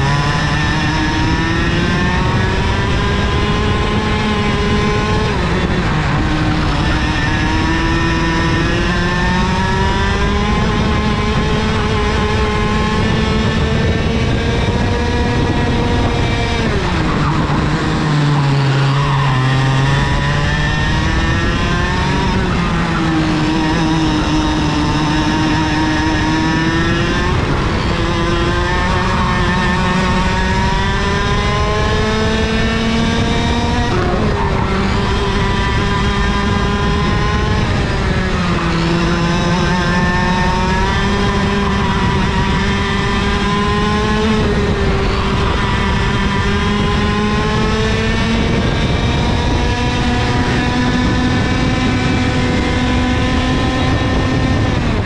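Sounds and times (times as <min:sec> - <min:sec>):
kart engine revving: 0:00.0 - 0:55.0
rushing wind noise: 0:00.0 - 0:55.0.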